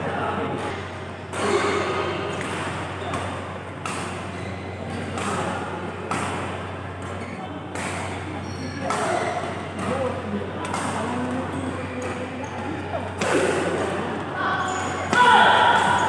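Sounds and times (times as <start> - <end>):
racket hitting shuttlecock: 1.3 - 14.1, 14.7 - 16.0.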